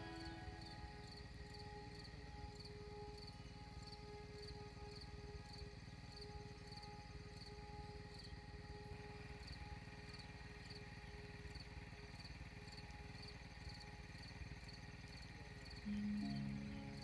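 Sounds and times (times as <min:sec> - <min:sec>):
low sustained note: 0:00.0 - 0:14.7, 0:15.3 - 0:17.0
insect chirping: 0:00.0 - 0:17.0
soft background music: 0:00.0 - 0:17.0.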